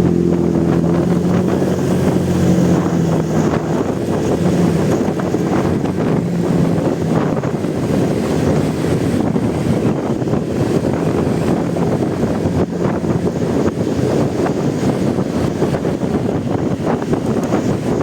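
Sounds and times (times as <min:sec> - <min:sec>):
motorcycle engine running: 0:00.0 - 0:18.0
wind rush on microphone: 0:00.0 - 0:18.0.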